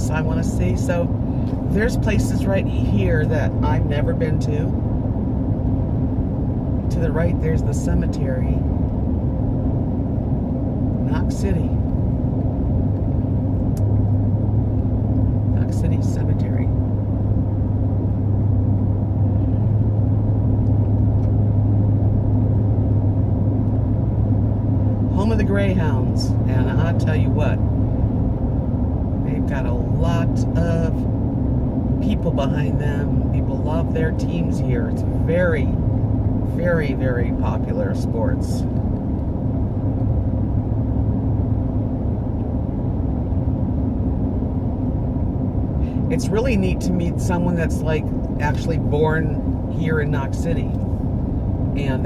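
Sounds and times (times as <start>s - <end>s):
car interior road rumble: 0.0s - 52.0s
faint steady hum: 0.0s - 52.0s.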